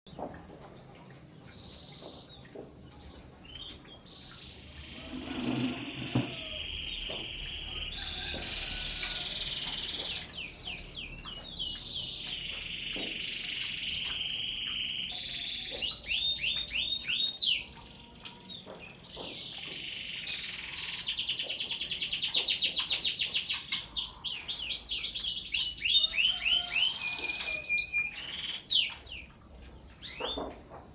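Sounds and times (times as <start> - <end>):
canaries singing: 0.1 - 30.9.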